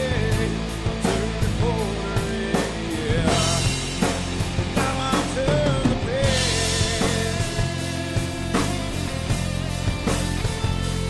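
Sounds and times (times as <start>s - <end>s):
rock song with singing: 0.0s - 11.0s
steady drum beat: 0.0s - 11.0s.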